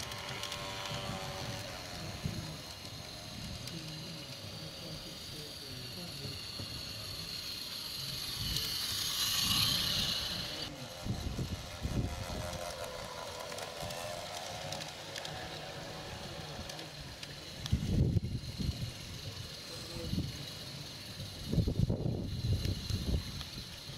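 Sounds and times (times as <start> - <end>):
steam hissing: 0.0 - 11.7, 14.8 - 23.9
wheels ticking on track: 0.0 - 23.9.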